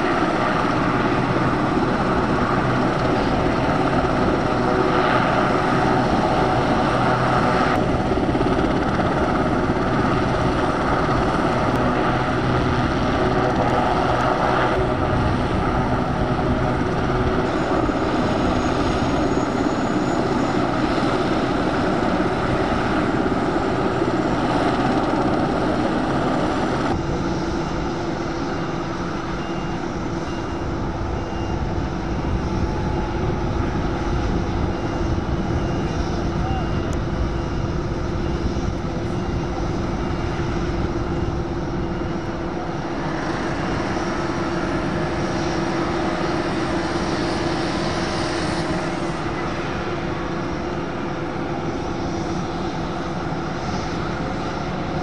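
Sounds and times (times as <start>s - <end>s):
helicopter turbine and rotor noise: 0.0s - 55.0s.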